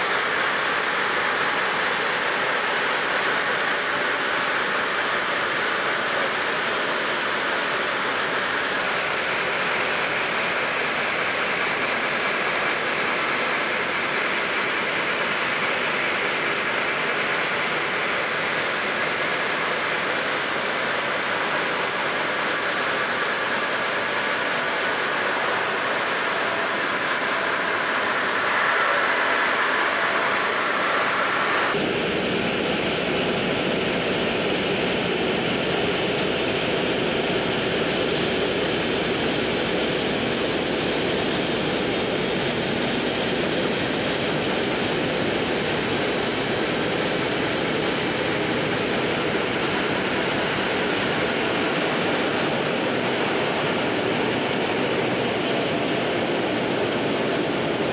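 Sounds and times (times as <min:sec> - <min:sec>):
high saw whine: 0:00.0 - 0:57.9.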